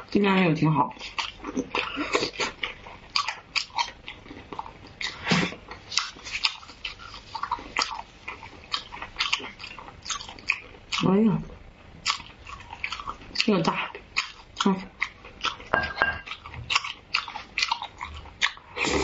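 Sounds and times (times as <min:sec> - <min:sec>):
chewing: 0:00.9 - 0:11.1, 0:12.0 - 0:19.0.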